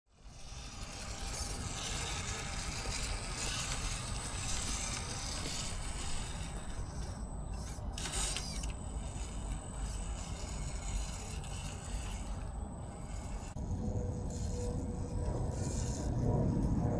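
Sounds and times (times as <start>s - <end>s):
rc car electric motor running: 0.1s - 16.7s.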